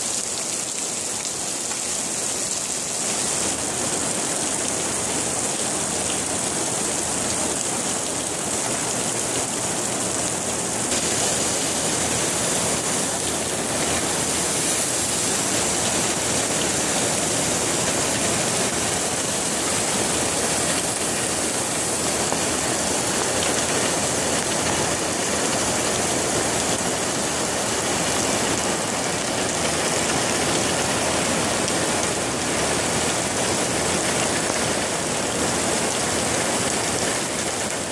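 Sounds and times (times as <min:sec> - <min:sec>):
rainwater falling on steel: 0:00.0 - 0:37.9.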